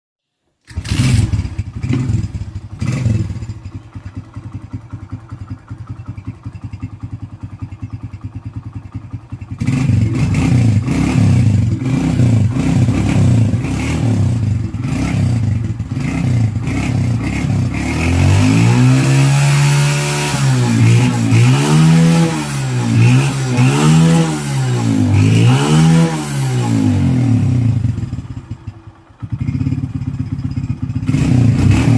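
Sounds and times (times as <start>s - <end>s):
motorcycle engine idling and revving: 0.7s - 31.9s.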